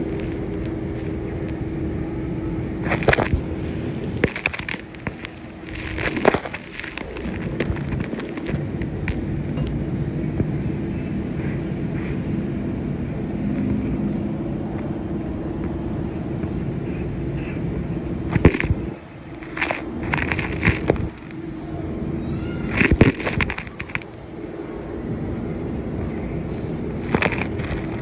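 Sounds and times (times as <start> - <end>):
faint constant hum: 0.0 - 28.0
low engine rumble: 0.0 - 28.0.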